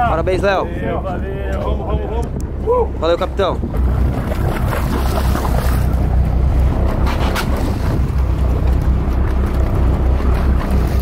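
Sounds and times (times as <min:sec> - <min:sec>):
boat engine drone: 0:00.0 - 0:11.0
wind buffeting microphone: 0:00.0 - 0:11.0.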